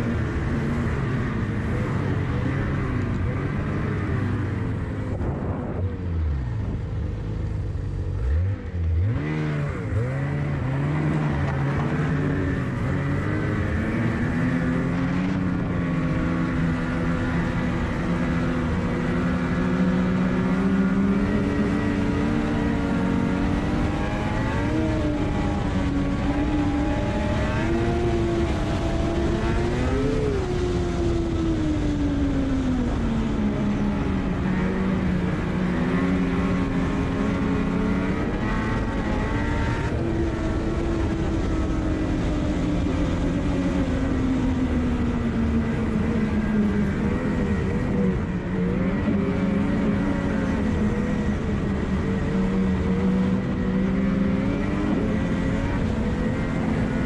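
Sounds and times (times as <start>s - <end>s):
track and wind rush: 0.0s - 57.0s
snowmobile engine revving: 8.0s - 57.0s.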